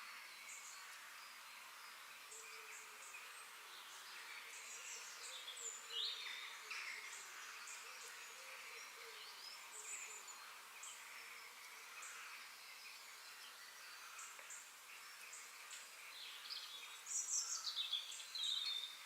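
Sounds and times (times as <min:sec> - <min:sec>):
insects humming: 0:00.0 - 0:19.0.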